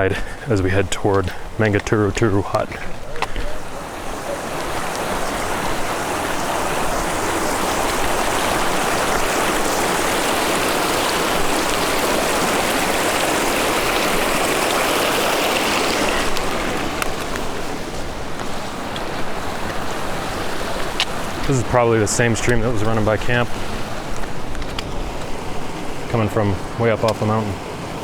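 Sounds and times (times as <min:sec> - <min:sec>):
stream rushing: 0:00.0 - 0:28.0.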